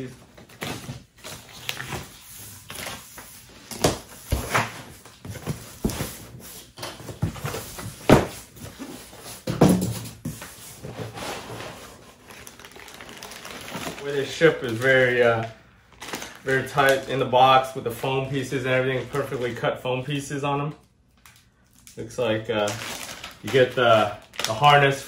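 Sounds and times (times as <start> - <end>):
packing foam and plastic rustling: 0.0 - 19.7, 21.2 - 25.0.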